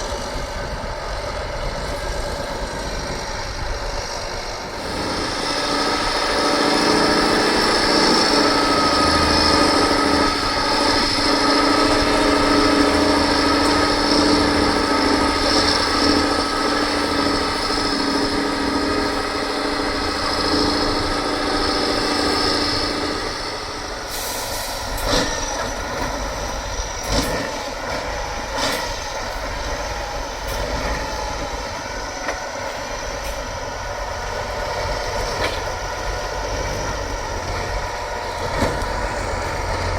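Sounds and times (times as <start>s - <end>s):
diesel truck engine whining: 0.0s - 39.9s.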